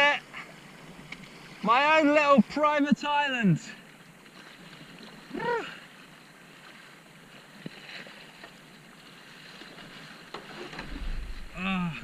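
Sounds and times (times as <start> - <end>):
water lapping and trickling: 0.0 - 12.0.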